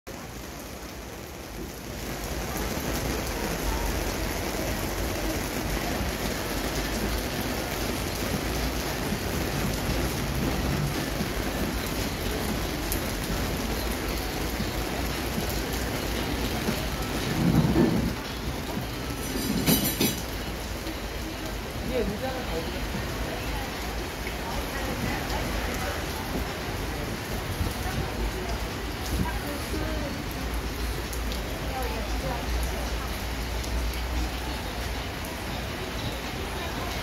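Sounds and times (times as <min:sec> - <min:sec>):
steady rain falling: 0:00.1 - 0:37.0.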